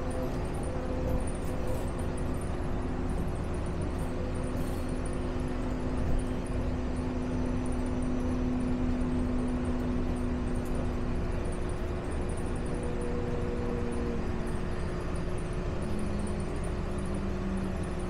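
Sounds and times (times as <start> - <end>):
monorail running rumble and hiss: 0.0 - 18.0.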